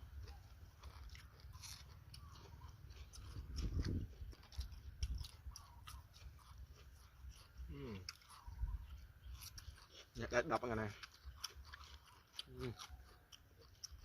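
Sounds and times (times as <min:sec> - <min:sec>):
person chewing and crunching food: 0:00.0 - 0:14.0.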